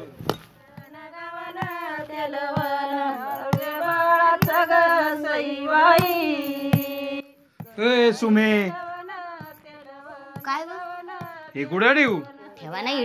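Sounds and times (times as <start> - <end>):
percussion beat: 0.0 - 12.9
woman singing folk song: 0.6 - 7.8, 8.8 - 13.0.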